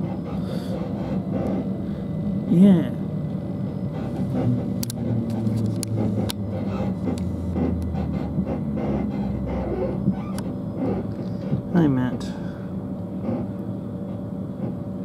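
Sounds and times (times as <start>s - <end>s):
train cabin running hum: 0.0s - 15.0s.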